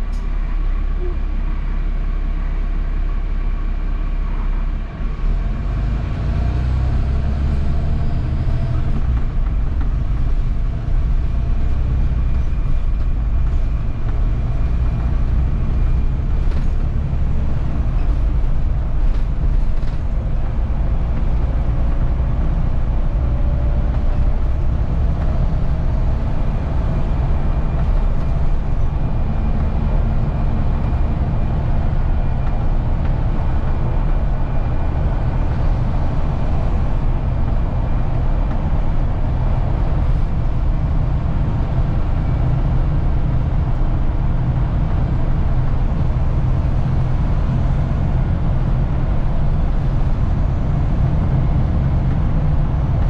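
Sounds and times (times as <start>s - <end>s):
bus diesel engine rumble: 0.0s - 53.0s
road noise: 0.0s - 53.0s.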